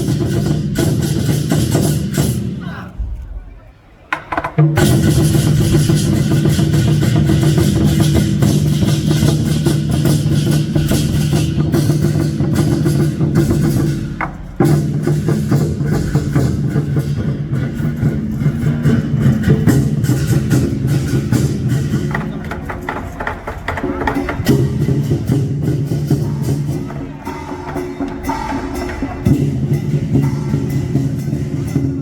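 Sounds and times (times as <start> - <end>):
drums and percussion beating: 0.0 - 32.0.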